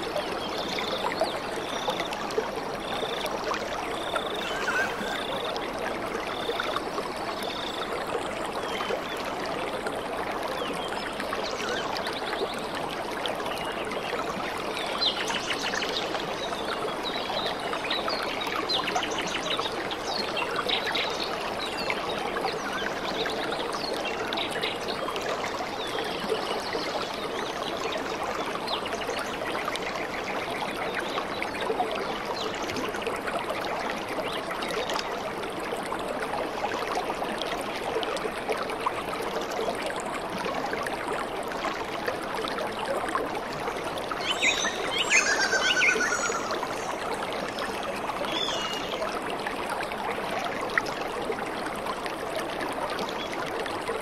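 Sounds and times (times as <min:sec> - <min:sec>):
small water splashes: 0:00.0 - 0:54.0
water running over rocks: 0:00.0 - 0:54.0.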